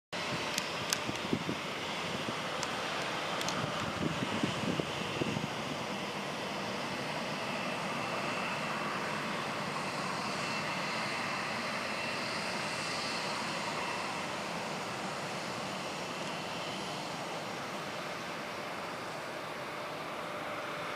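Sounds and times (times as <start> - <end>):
high engine whine: 0.2 - 20.9
jet engines running: 0.2 - 20.9.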